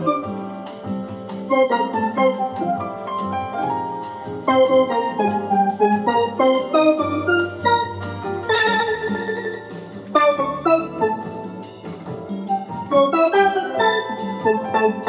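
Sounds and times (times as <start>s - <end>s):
synth steel drum melody: 0.0s - 15.0s.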